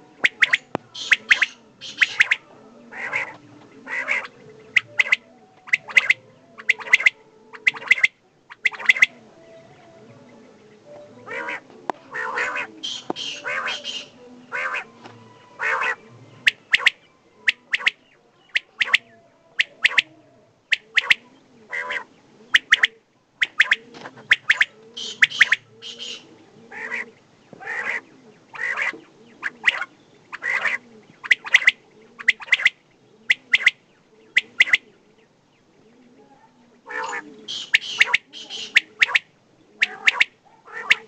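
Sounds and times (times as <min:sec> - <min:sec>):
quail calling: 0:00.0 - 0:41.0.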